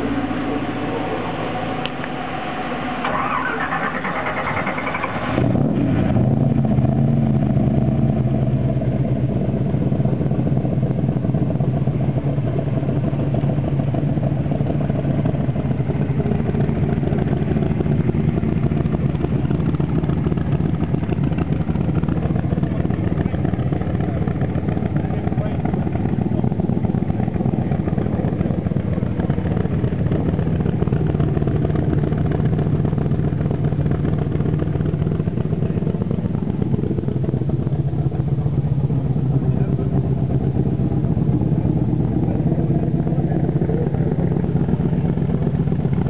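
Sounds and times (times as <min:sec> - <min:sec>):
engine cranking with whine: 0:00.0 - 0:08.9, 0:09.7 - 0:46.0
engine idling: 0:00.0 - 0:46.0.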